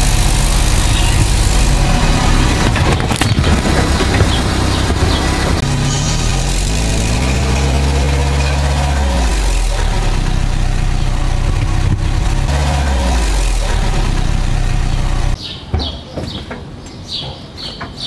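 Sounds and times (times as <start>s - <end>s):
car engine droning: 0.0s - 15.4s.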